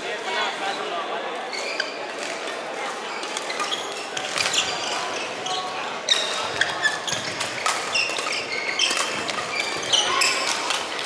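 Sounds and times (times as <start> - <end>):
shoes squeaking on floor: 0.6 - 11.0.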